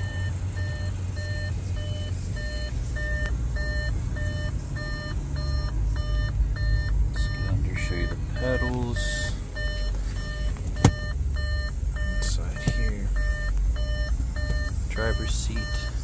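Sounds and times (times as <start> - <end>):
car warning chime beeping: 0.0 - 16.0
low steady rumble: 0.0 - 16.0.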